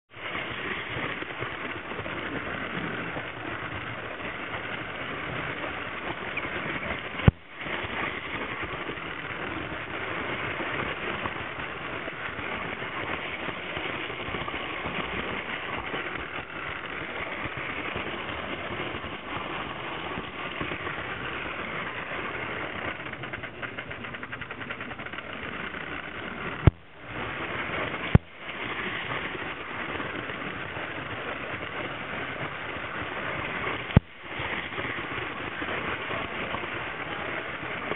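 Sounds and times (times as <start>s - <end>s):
model train rattling on track: 0.1s - 37.9s.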